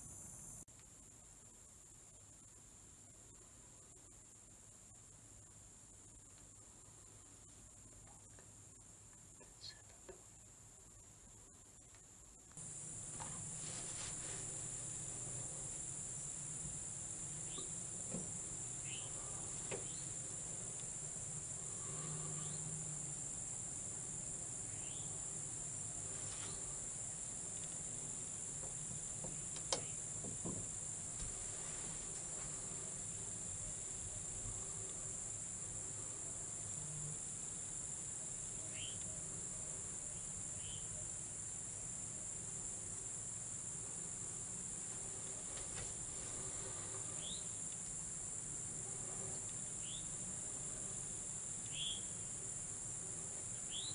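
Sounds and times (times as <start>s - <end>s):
insects trilling: 0.0s - 0.7s, 5.0s - 53.9s.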